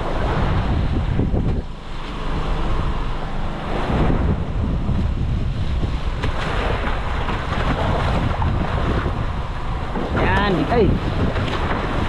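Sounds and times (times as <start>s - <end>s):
water sloshing against boat hull: 0.0s - 12.0s
wind buffeting microphone: 0.0s - 12.0s.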